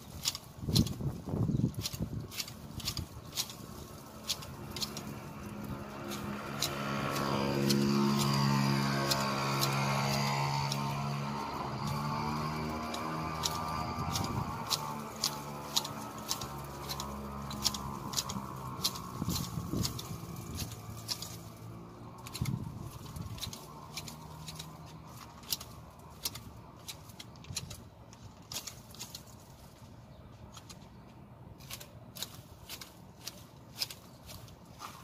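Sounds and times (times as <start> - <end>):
hedge shears snipping twigs: 0.0 - 35.0.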